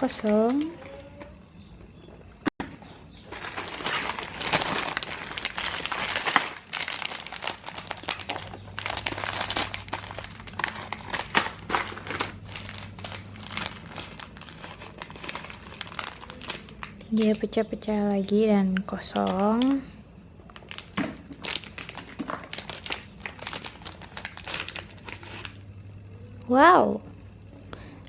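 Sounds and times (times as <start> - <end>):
plastic packets crinkling: 2.9 - 26.0.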